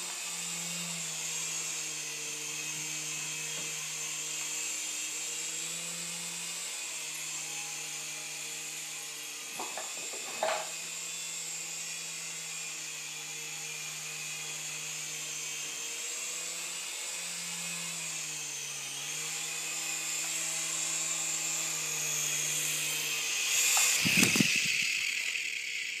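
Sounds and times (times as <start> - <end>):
rc helicopter motor whining: 0.0 - 26.0.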